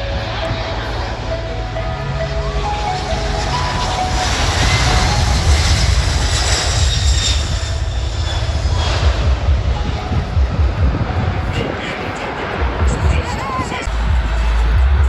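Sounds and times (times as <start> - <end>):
jet engines rumbling with high whine: 0.0 - 15.0.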